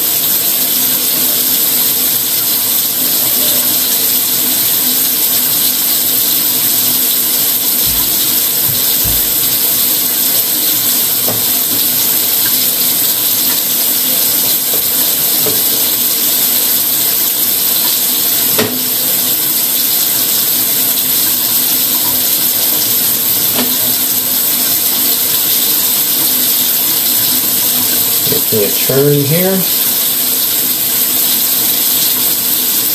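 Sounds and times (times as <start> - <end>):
steady loud hiss: 0.0 - 32.9.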